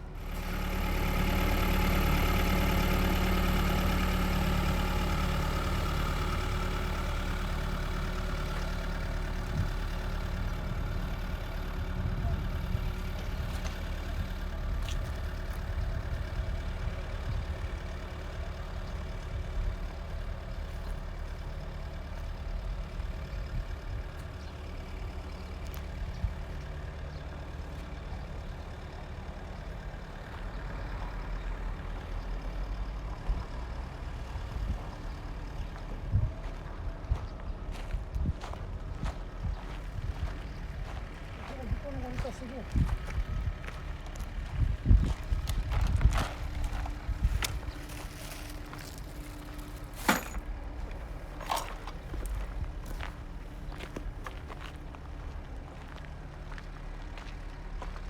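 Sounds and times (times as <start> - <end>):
heavy engine droning: 0.0 - 58.0.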